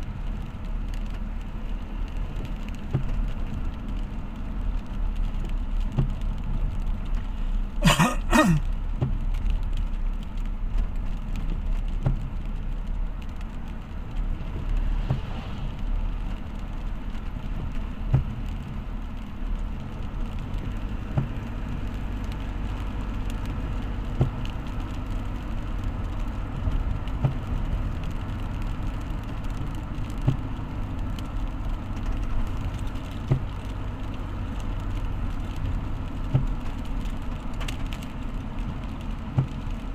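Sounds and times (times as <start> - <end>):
road vehicle rumbling: 0.0 - 39.9.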